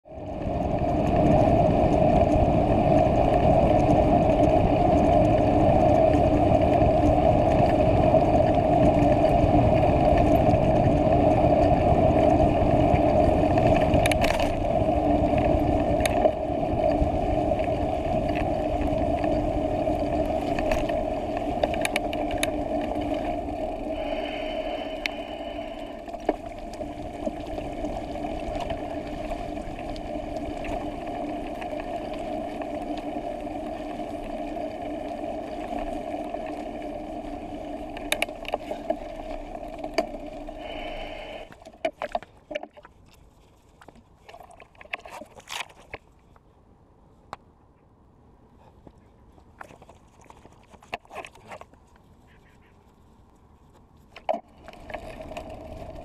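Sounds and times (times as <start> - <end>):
wind rumble on microphone: 0.0 - 42.7, 49.1 - 56.0
tyres humming on tarmac: 0.0 - 56.0.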